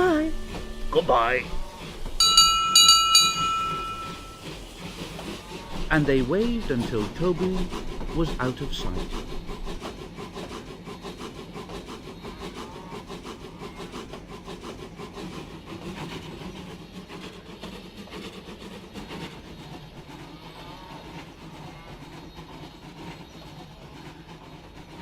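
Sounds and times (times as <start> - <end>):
steam engine chuffing: 0.0 - 25.0.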